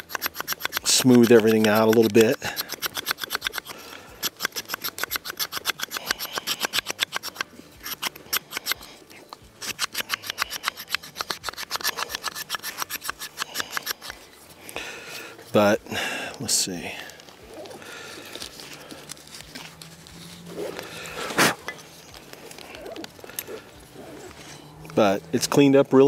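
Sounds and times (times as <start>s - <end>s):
knife scraping wooden dowel: 0.0s - 14.2s, 17.5s - 24.5s.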